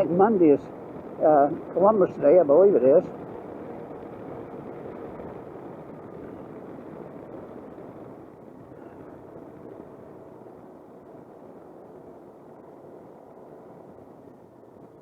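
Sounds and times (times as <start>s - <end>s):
faint engine hum: 0.0s - 15.0s
wind and road noise: 0.0s - 15.0s.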